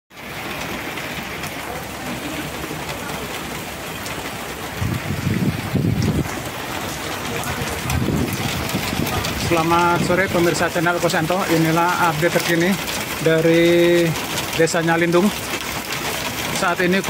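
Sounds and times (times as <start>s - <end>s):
low rumbles: 0.2s - 16.9s
heavy rain hissing: 0.2s - 17.0s.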